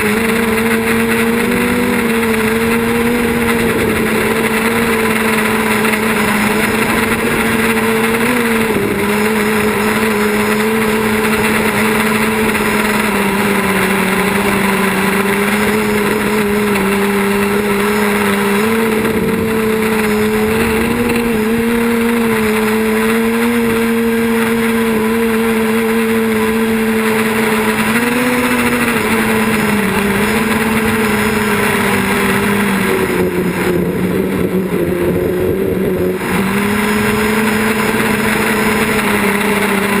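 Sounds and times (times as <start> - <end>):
drone propellers buzzing: 0.0 - 40.0.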